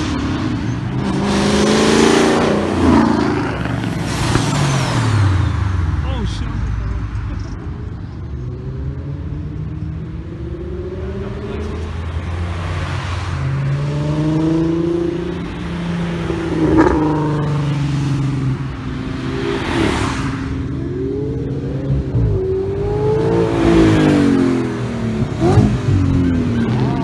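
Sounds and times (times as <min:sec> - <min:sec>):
car engines revving and accelerating: 0:00.0 - 0:27.0.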